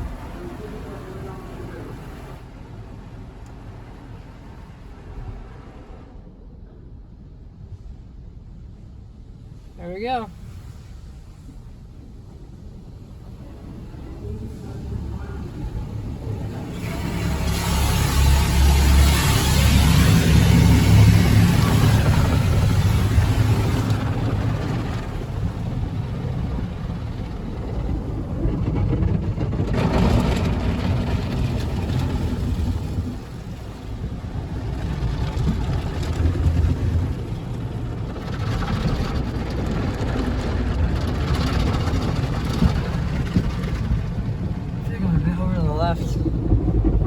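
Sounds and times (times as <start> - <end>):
car wash spraying water: 0.0 - 6.1, 8.6 - 47.0
steady low rumble: 0.0 - 47.0.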